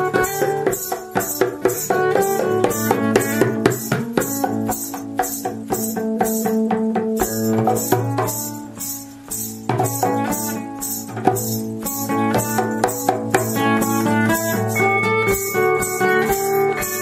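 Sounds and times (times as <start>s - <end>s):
hand percussion: 0.0s - 17.0s
plucked notes: 0.0s - 17.0s.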